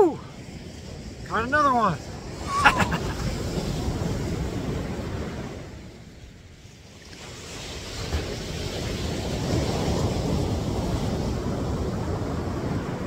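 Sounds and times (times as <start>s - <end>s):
ocean surf washing up: 0.0s - 13.0s
wind rumbling on microphone: 0.0s - 13.0s.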